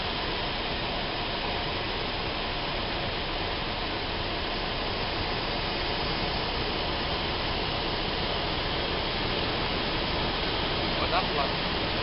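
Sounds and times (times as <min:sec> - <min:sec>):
aircraft cabin engine and wind noise: 0:00.0 - 0:12.0.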